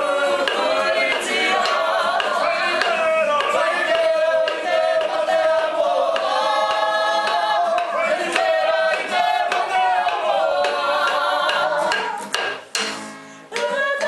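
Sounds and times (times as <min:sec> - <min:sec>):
group singing in unison: 0:00.0 - 0:12.6.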